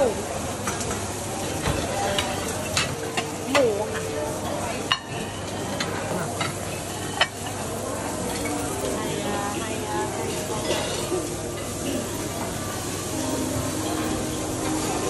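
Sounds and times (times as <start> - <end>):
meat sizzling on grill: 0.0 - 15.0
tongs and plates clinking: 0.6 - 15.0.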